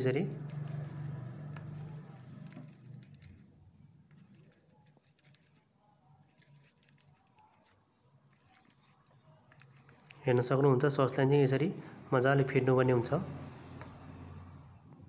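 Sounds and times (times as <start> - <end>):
wet squelching of batter: 0.0 - 12.7.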